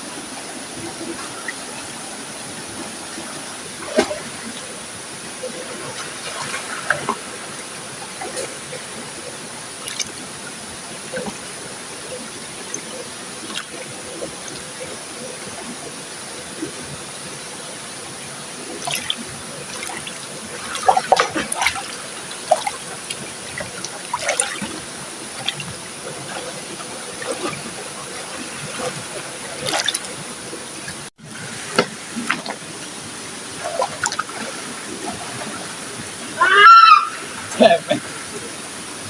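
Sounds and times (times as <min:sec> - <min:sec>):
river water running: 0:00.0 - 0:39.0
small water splashes: 0:00.5 - 0:39.0.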